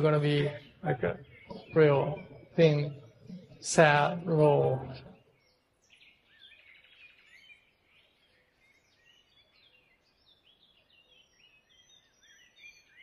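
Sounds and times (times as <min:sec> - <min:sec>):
bird trill: 0:00.0 - 0:13.0
birds chirping and whistling: 0:00.0 - 0:13.0.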